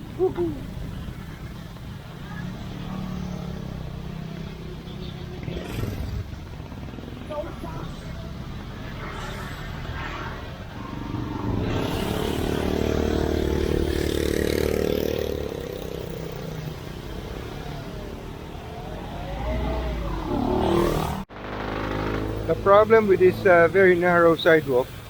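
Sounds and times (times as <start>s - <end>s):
street traffic: 0.0s - 25.0s
vehicle engine passing close: 0.1s - 24.8s.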